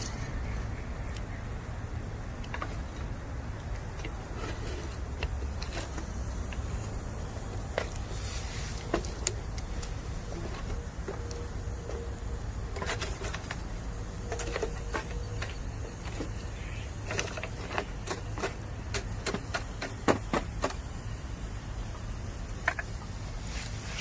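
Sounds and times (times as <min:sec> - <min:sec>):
bamboo popping and crackling in fire: 0:00.0 - 0:24.0.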